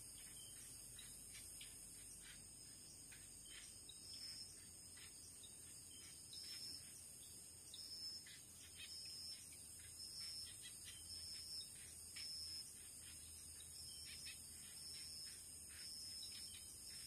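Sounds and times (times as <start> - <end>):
insects high drone: 0.0 - 17.0
pulsing insect call: 0.0 - 17.0
short insect chirps: 0.0 - 17.0.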